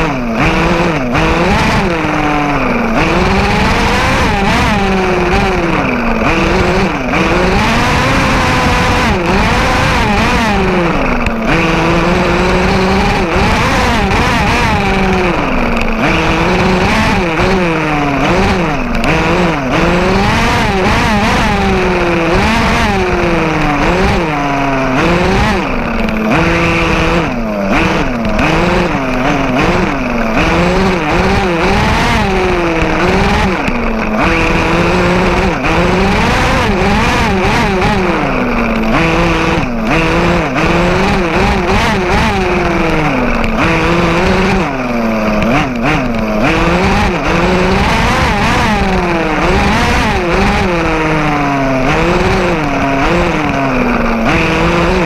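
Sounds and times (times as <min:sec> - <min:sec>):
toy truck motor revving: 0:00.0 - 0:55.0.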